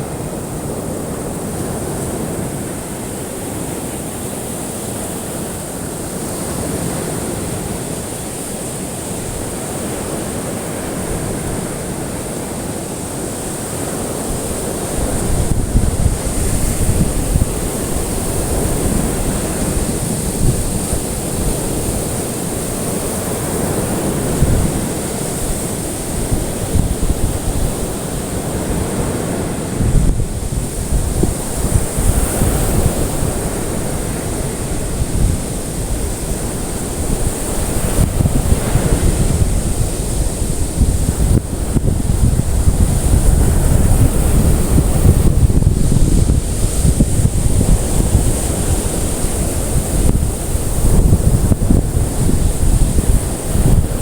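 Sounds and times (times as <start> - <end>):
ocean surf washing on shore: 0.0 - 54.0.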